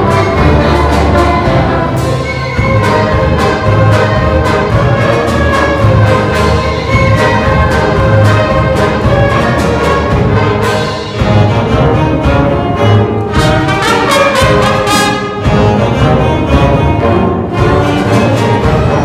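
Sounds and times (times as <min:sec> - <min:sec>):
orchestra playing lively piece: 0:00.0 - 0:19.0.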